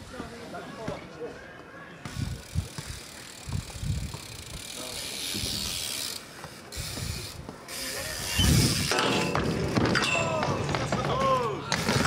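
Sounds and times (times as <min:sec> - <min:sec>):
bike metallic clicks and clatter: 0:02.1 - 0:12.0.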